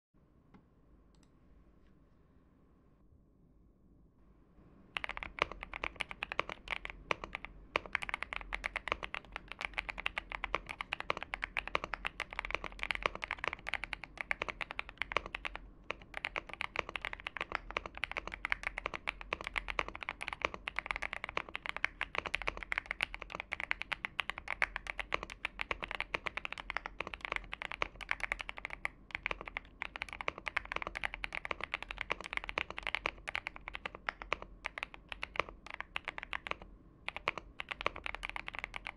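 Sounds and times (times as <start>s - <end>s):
fast typing on mechanical keyboard: 5.0s - 38.9s.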